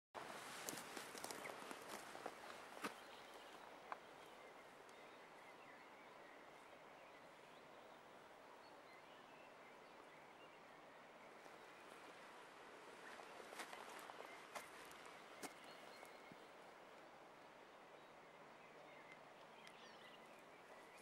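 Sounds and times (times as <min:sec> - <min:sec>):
distant bird chirps: 0:00.7 - 0:21.0.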